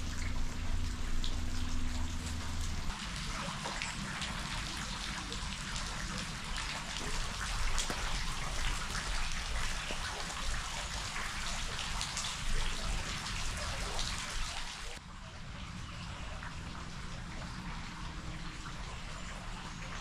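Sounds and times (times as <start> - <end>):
water splashing and trickling: 0.0 - 20.0.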